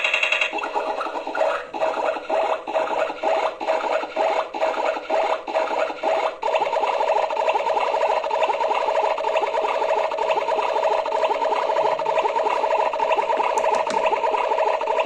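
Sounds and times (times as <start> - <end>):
rhythmic rasping strokes: 0.5 - 15.0.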